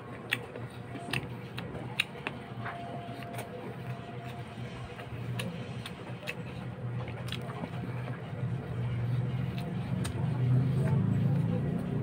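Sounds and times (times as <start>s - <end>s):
person chewing food: 0.0s - 11.2s
steady low hum: 0.0s - 12.0s.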